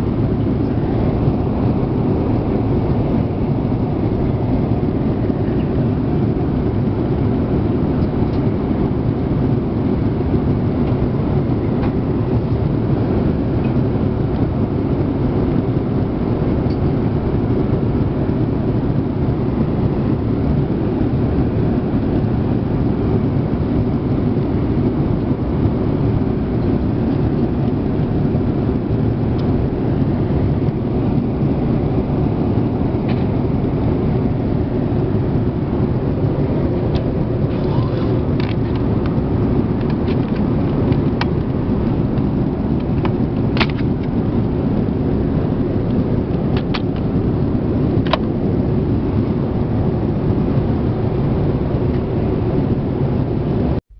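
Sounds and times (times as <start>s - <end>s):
airliner cabin engine roar: 0.0s - 53.9s.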